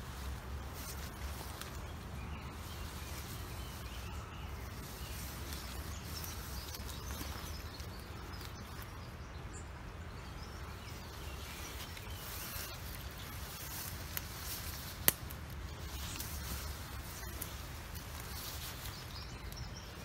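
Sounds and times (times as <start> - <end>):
rustling of vegetation and clothing: 0.0 - 20.0.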